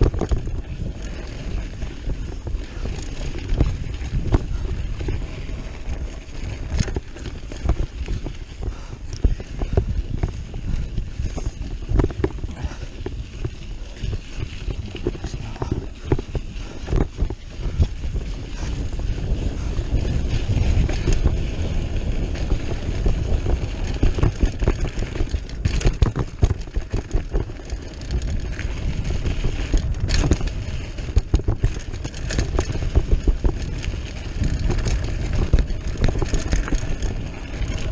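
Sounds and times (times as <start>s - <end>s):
bike knocking and clattering: 0.0s - 37.9s
tyres on dirt: 0.0s - 37.9s
wind rushing over microphone: 0.0s - 37.9s.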